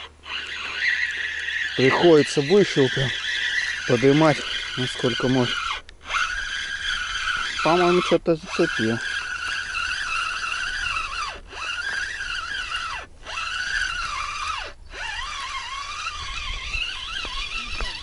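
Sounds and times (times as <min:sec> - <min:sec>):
fishing reel whining: 0:00.0 - 0:18.0.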